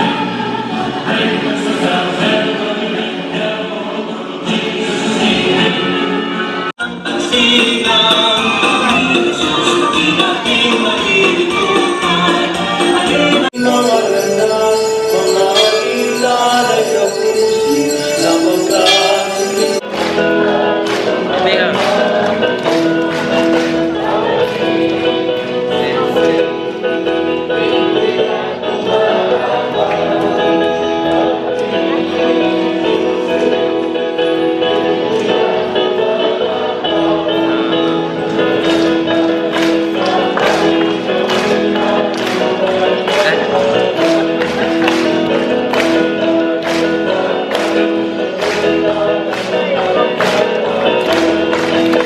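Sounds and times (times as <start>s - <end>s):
music with singing: 0.0s - 52.0s.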